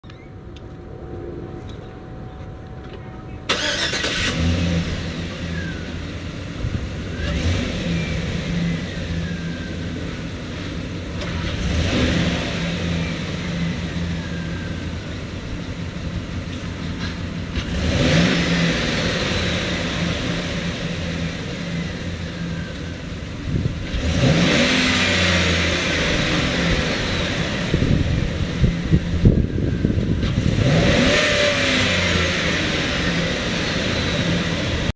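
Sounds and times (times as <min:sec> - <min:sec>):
van engine cranking: 0:03.5 - 0:34.9
van engine idling and revving: 0:03.5 - 0:34.9.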